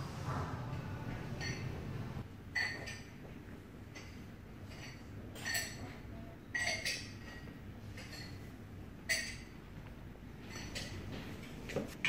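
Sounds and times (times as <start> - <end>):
dishes and glassware clinking: 0.3 - 9.6, 10.4 - 12.0.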